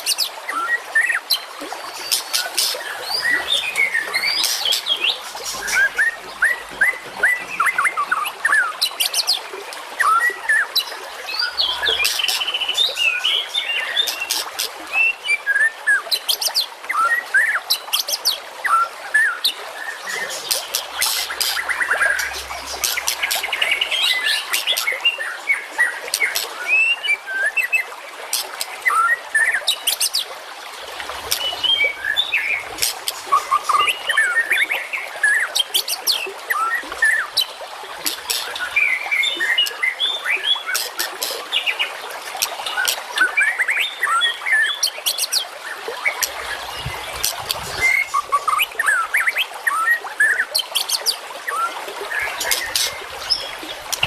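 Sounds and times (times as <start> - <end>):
songbirds chirping and trilling: 0.0 - 15.7, 18.6 - 54.0.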